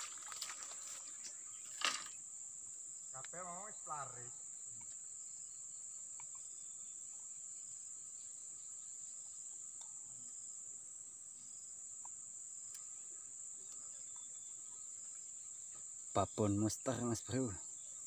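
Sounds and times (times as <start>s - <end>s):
insect chorus shrill trill: 0.0s - 18.0s.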